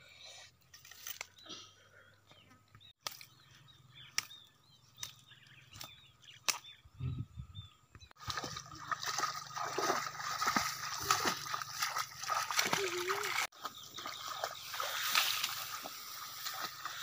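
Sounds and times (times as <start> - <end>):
birds chirping: 1.1 - 17.0.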